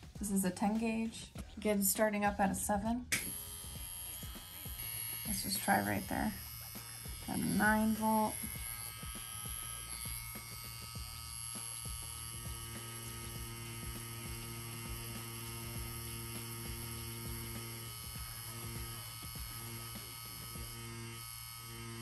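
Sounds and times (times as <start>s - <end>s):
tattoo pen electric hum: 3.0s - 22.0s.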